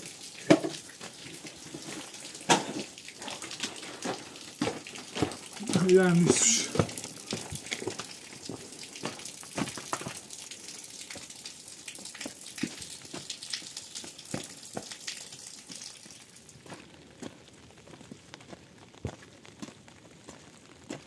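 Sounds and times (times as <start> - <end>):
rain falling: 0.0 - 21.0
raindrop taps: 0.0 - 21.0.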